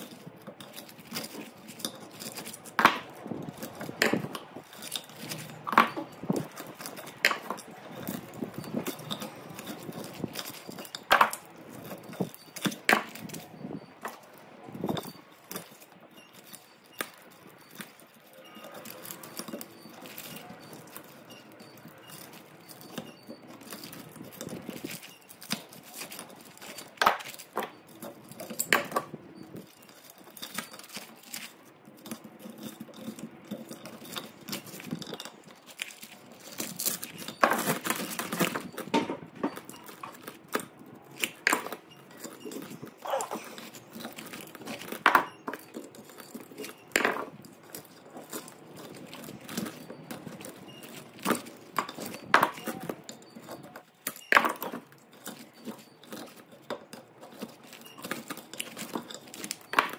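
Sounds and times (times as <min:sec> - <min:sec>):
scraping and rustling: 0:00.0 - 0:59.9.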